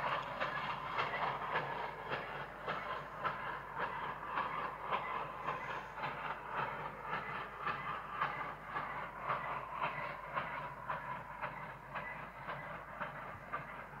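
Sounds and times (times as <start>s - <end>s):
steady steam hiss: 0.0s - 14.0s
steam locomotive exhaust beats: 0.0s - 14.0s.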